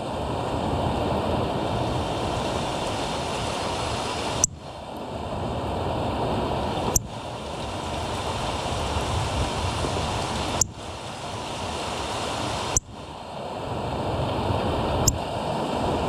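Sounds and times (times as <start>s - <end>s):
rushing outdoor noise: 0.0s - 16.0s.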